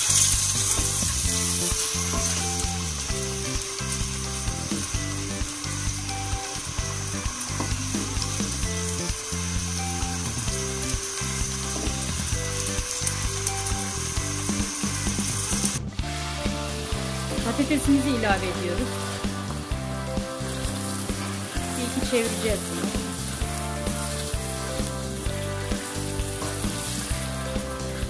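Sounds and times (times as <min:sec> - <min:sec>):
background music: 0:00.0 - 0:28.0
chicken sizzling in hot oil: 0:00.0 - 0:28.0.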